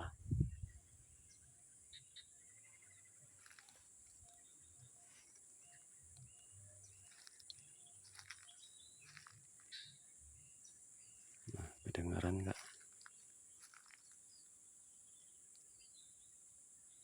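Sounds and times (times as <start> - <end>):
chirping calls and high peeps: 0.0 - 17.0.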